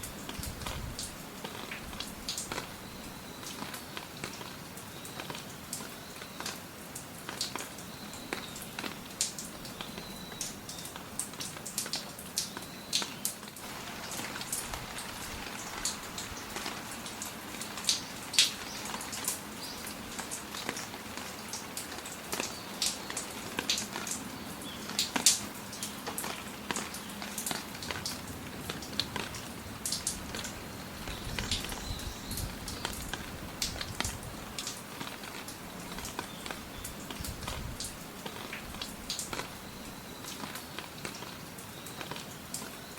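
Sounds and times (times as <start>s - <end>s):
large raindrops tapping: 0.0s - 42.8s
steady rain: 0.0s - 42.9s.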